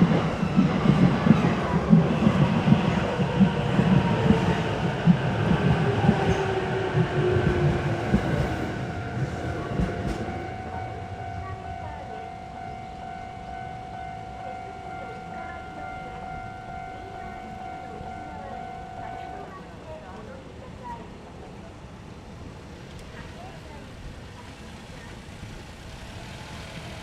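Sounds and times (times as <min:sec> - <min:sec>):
train rumbling and clattering: 0:00.0 - 0:27.0.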